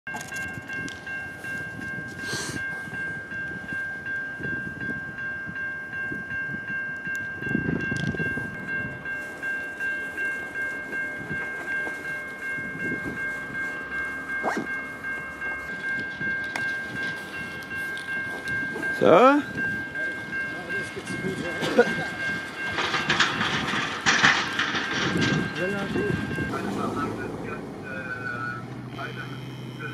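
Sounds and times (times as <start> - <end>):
level crossing bell ringing: 0.1 - 29.9.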